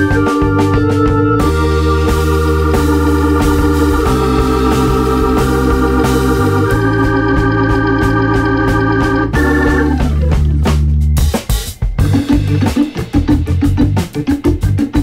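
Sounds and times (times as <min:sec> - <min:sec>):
organ chords: 0:00.0 - 0:15.0
steady beat: 0:00.0 - 0:15.0.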